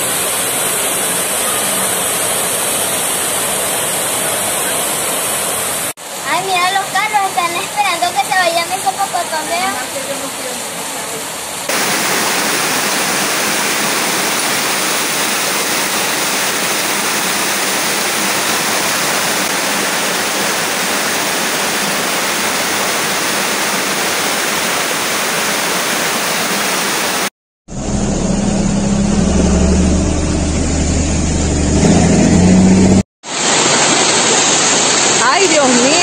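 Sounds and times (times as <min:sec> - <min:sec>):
rushing runoff water: 0:00.0 - 0:27.3, 0:33.2 - 0:36.0.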